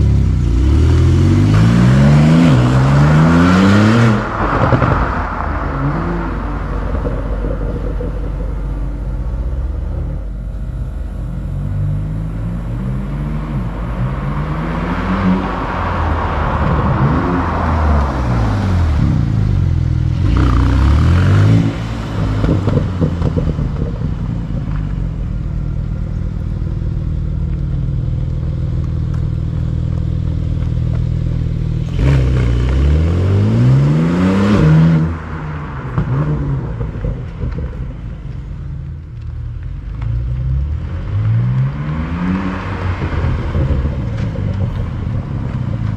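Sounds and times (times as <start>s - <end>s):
sports car engine revving: 0.0s - 38.8s.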